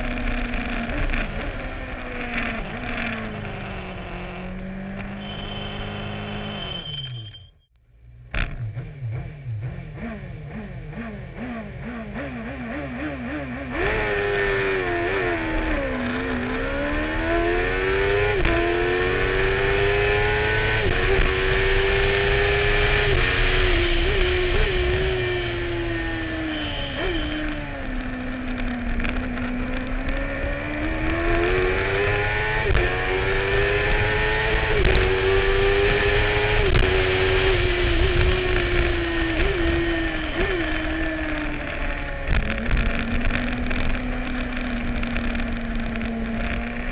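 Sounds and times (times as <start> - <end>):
racing sidecar engine at high revs: 0.0 - 7.0, 8.2 - 46.9.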